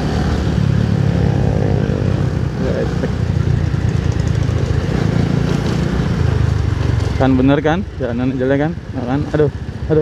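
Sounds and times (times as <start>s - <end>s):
motorcycle engine under throttle: 0.0s - 10.0s
wind and road noise: 0.0s - 10.0s.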